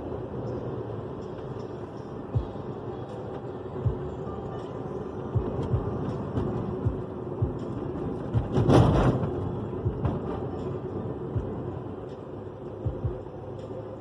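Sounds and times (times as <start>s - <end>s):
car cabin road noise: 0.0s - 14.0s.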